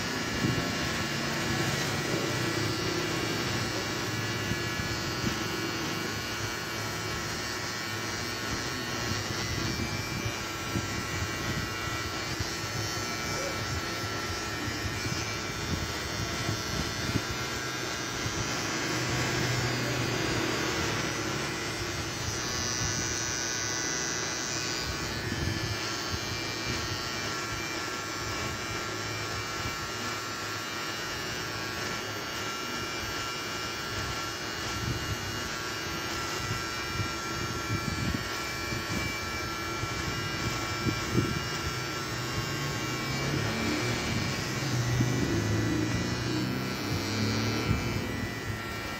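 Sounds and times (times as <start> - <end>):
electric beard trimmer: 0.0 - 48.9.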